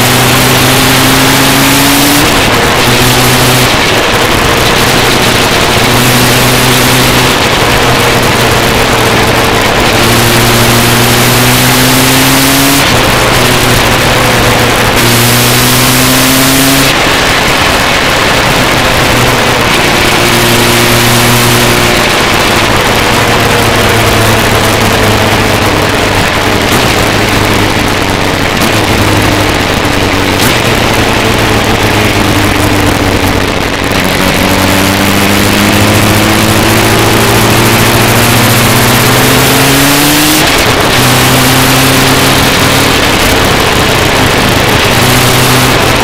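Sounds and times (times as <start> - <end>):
motorcycle engine accelerating: 0.0 - 46.0
wind rush on microphone: 0.0 - 46.0.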